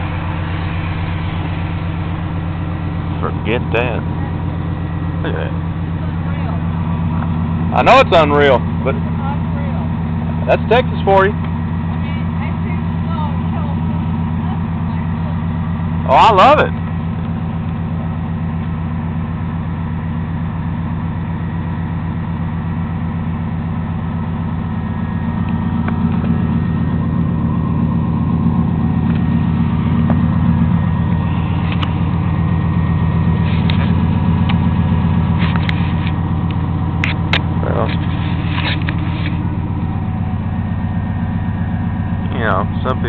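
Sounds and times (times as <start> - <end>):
pickup truck engine idling: 0.0 - 43.0.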